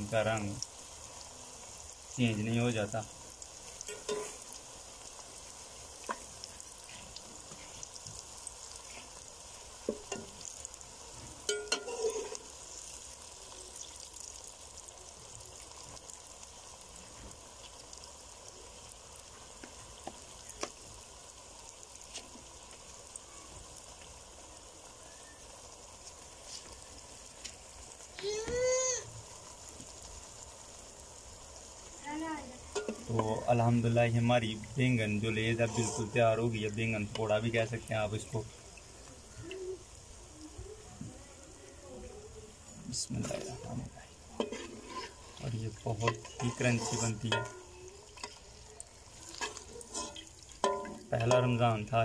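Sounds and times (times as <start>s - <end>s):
deep-frying sizzle: 0.0s - 52.0s.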